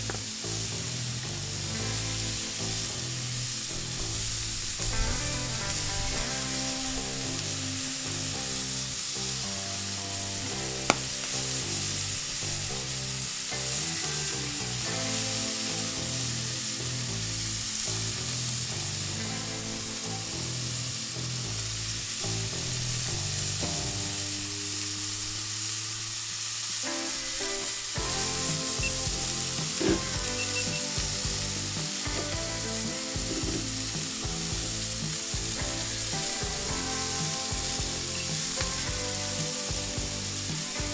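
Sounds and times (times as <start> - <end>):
meat and onions sizzling on griddle: 0.0 - 40.9.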